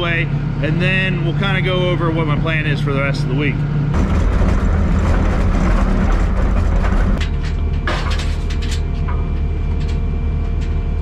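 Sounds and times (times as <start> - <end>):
skid steer engine idling: 0.0 - 11.0
steady high whine: 0.0 - 11.0.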